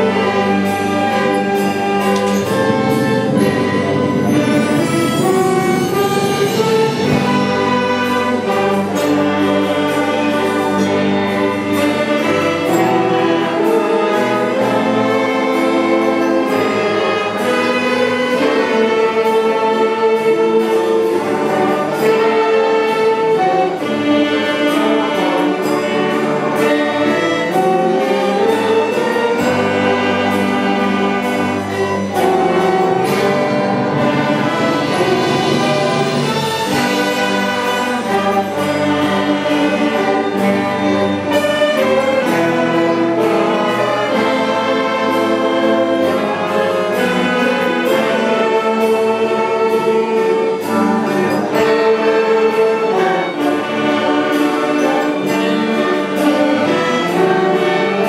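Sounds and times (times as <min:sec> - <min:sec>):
wind band playing: 0:00.0 - 0:58.0.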